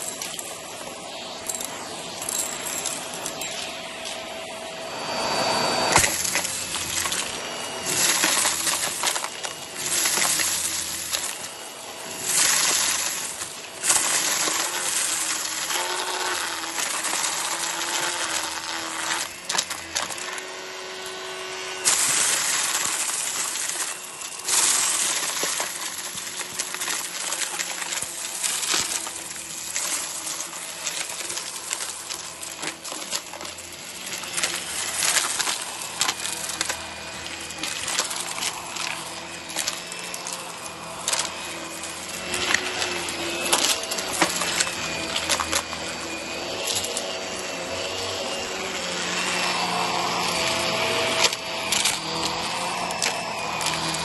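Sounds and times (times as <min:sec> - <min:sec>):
hard bits clattering through vacuum: 0:00.0 - 0:04.2, 0:05.9 - 0:54.0
vacuum cleaner running on carpet: 0:00.0 - 0:54.0.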